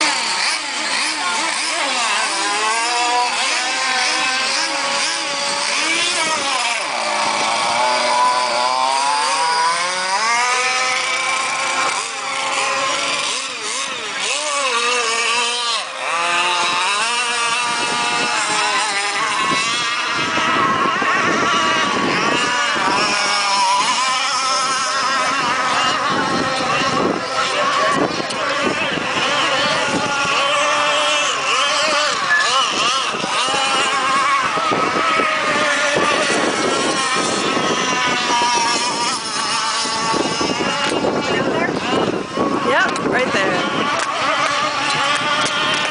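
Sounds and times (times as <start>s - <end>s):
model boat engines revving: 0.0s - 45.9s.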